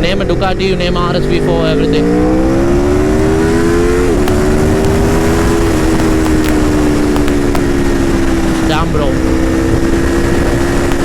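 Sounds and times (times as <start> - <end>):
heavy wind rush: 0.0 - 11.0
motorcycle engine accelerating: 0.0 - 11.0.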